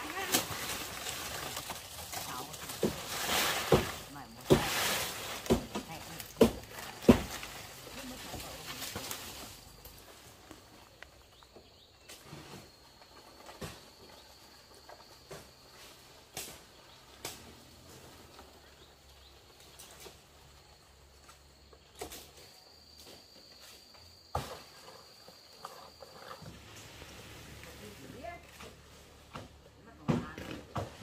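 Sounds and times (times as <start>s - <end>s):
rustles: 0.0s - 31.0s.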